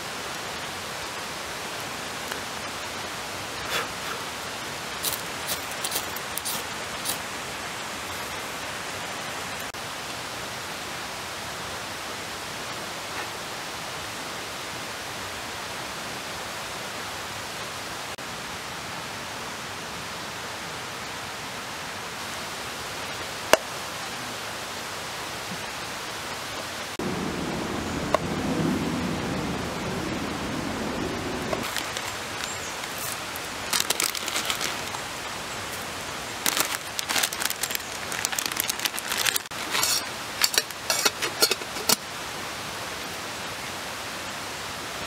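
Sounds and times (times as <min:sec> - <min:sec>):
steady hiss: 0:00.0 - 0:14.0, 0:21.0 - 0:45.0.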